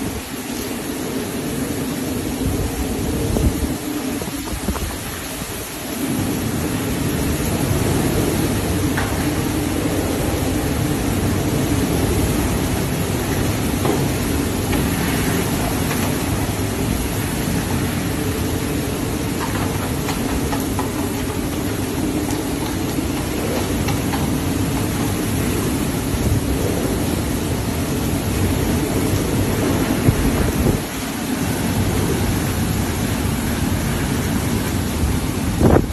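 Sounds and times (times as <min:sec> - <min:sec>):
heavy rain pouring: 0:00.0 - 0:35.9
strong wind blowing: 0:00.0 - 0:35.9.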